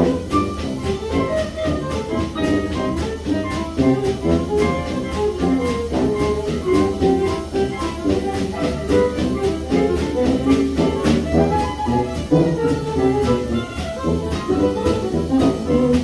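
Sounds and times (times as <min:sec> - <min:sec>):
bass line: 0:00.0 - 0:16.0
horn lines: 0:00.0 - 0:16.0
steady drum beat: 0:00.0 - 0:16.0.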